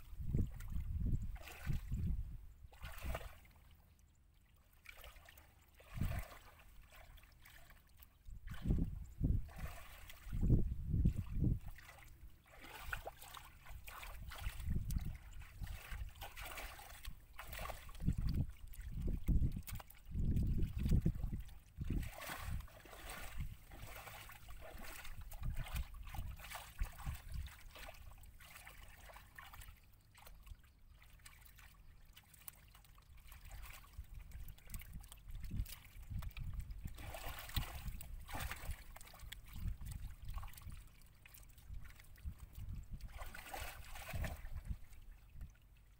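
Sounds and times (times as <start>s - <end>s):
muddy water splashing: 0.0s - 45.9s.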